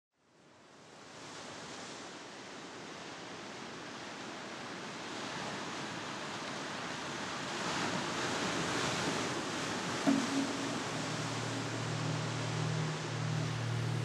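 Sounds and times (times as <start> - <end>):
ocean waves: 1.5 - 14.0.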